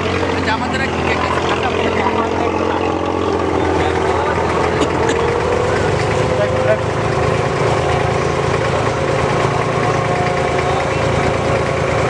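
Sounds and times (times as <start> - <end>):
boat diesel engine drone: 0.0 - 12.0
higher steady hum: 0.0 - 12.0.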